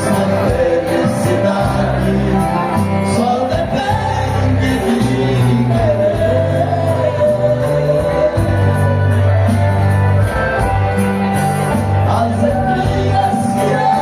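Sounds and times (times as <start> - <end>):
held bass notes: 0.0 - 14.0
live band with accordion: 0.0 - 14.0.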